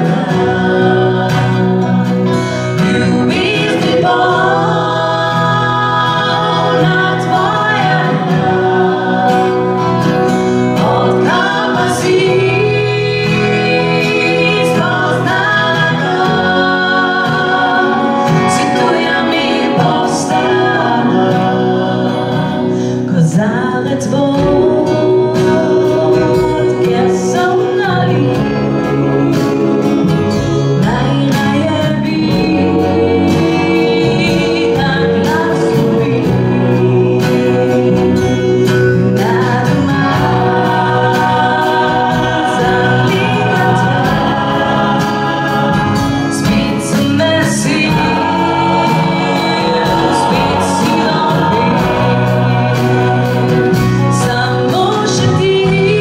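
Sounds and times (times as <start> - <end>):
acoustic guitars: 0.0 - 56.0
bass guitar: 0.0 - 56.0
choir and lead singer singing: 0.0 - 56.0
drum kit: 0.0 - 56.0.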